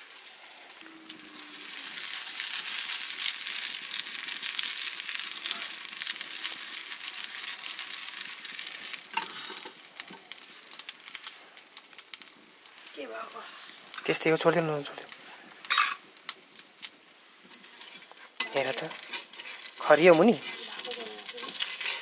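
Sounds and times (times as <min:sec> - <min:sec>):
oil sizzling in a pan: 0:00.0 - 0:22.0.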